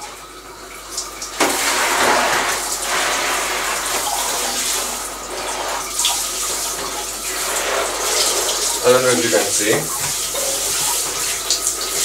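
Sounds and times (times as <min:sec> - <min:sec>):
shower spray rushing hiss: 0:01.4 - 0:12.0.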